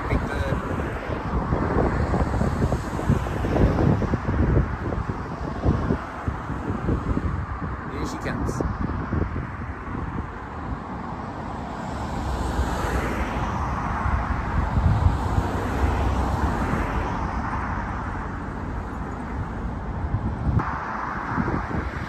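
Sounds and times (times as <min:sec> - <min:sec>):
jet airliner engine noise: 0:00.0 - 0:22.0
wind rumbling on microphone: 0:00.0 - 0:22.0.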